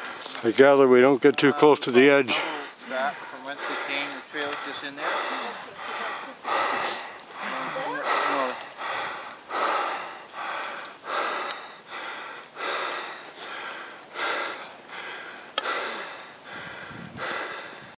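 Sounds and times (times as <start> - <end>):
heavy rhythmic breathing: 2.2 - 18.0.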